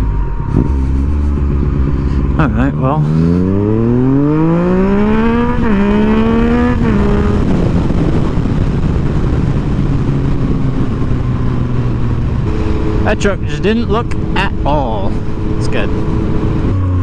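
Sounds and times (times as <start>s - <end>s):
motorcycle engine revving: 0.0s - 17.0s
wind noise: 0.0s - 17.0s.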